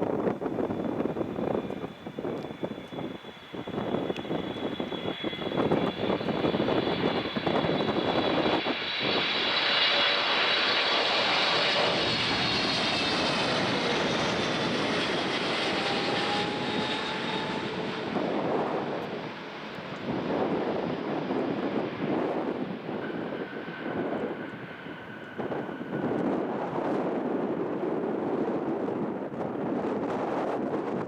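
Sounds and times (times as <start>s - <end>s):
jet engines passing: 0.0s - 31.0s.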